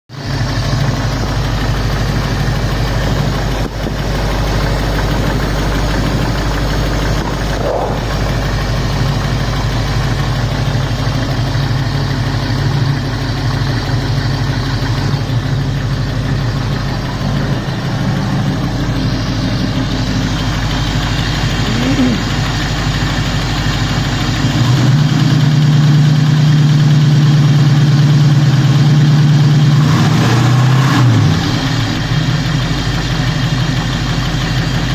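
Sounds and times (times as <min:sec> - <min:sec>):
engine idling: 0:00.1 - 0:34.9
engine ticking: 0:00.1 - 0:34.9.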